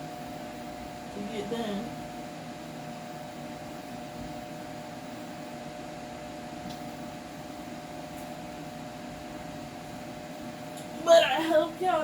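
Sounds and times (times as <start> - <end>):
machine hum with faint tone: 0.0 - 12.0.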